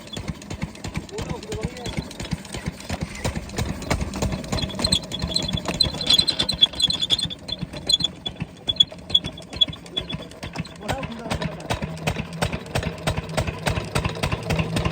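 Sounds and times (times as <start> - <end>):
diesel pump engine clattering: 0.0 - 14.9.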